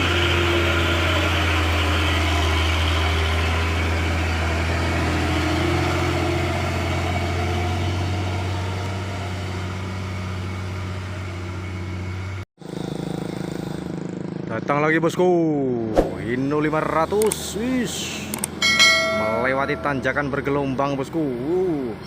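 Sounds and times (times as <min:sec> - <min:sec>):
truck diesel engine droning: 0:00.0 - 0:15.0, 0:16.2 - 0:22.0.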